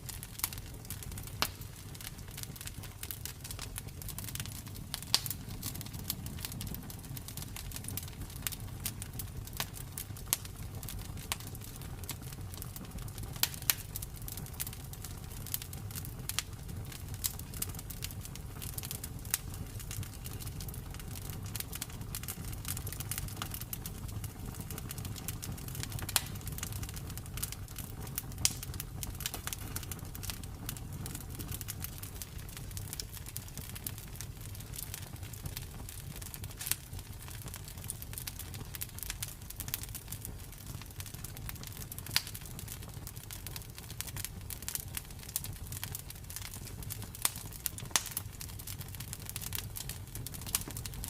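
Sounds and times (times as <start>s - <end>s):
campfire crackling and popping: 0.0s - 51.0s
low rumble of flames: 0.0s - 51.0s.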